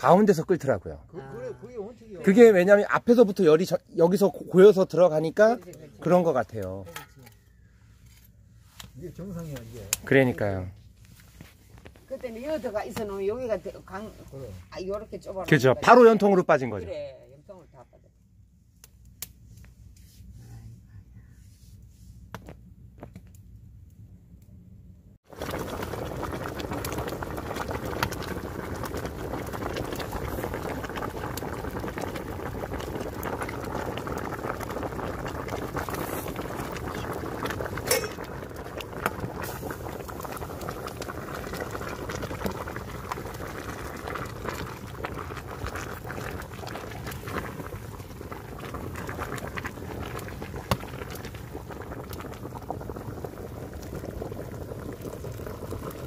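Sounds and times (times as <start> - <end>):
stew bubbling in a pot: 0.0 - 8.1, 8.8 - 10.8, 11.4 - 18.0, 25.2 - 56.0
wood fire popping: 1.5 - 16.6, 18.8 - 19.8, 22.3 - 23.6, 25.3 - 56.0.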